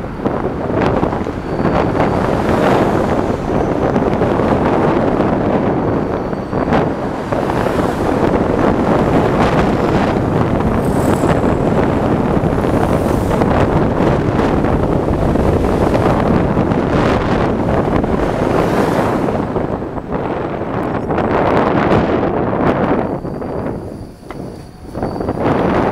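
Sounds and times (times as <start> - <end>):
loud wind over microphone: 0.0 - 25.9.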